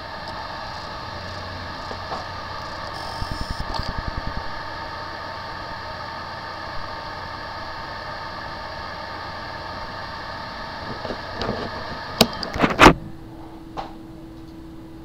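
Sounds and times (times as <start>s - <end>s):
small machine whirring: 0.0s - 12.9s
steady low hum: 0.0s - 15.0s.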